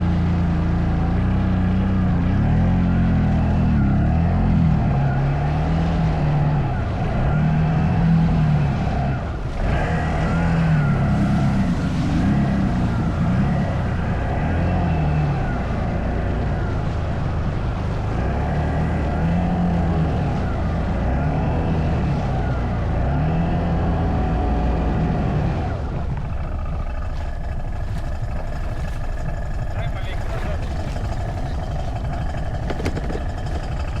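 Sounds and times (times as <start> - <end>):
atv engine revving: 0.0 - 34.0.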